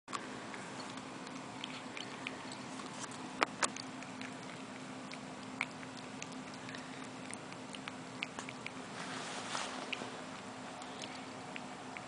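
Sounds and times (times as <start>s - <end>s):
puppy crunching dry kibble: 0.1s - 12.0s.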